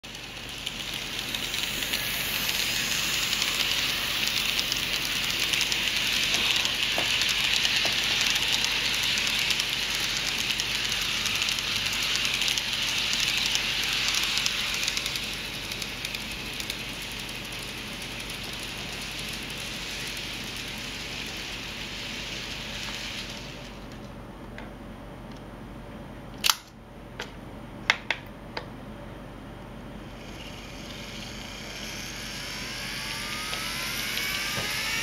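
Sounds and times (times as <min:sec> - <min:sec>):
model train wheels whirring: 0:00.0 - 0:24.1, 0:30.0 - 0:35.0.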